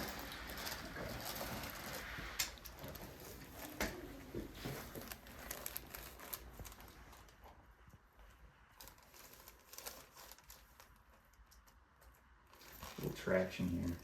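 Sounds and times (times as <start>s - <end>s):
rustling and crinkling: 0.0s - 14.0s.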